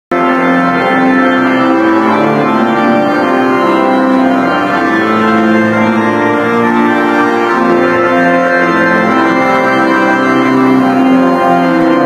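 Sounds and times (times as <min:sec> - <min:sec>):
organ playing a hymn: 0:00.1 - 0:12.0.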